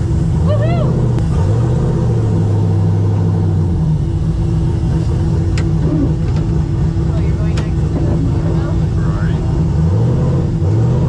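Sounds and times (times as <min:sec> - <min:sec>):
race car engine droning: 0:00.0 - 0:11.0.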